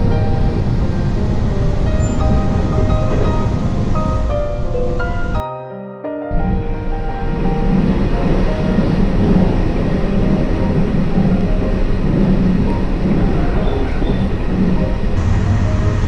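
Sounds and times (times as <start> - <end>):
train rumbling: 0.0 - 5.4, 6.4 - 16.0.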